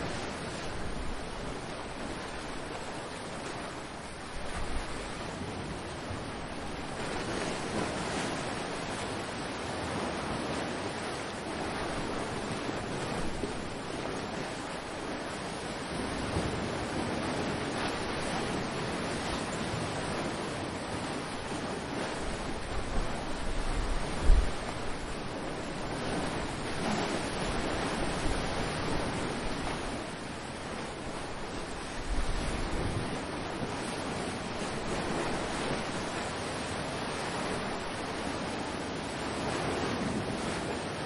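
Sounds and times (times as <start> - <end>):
wind buffeting microphone: 0.0 - 38.6
waves breaking and washing ashore: 0.0 - 41.0.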